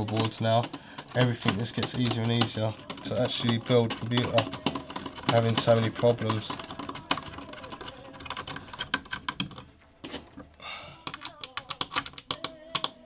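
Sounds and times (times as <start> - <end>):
metal and plastic parts clicking: 0.0 - 13.0.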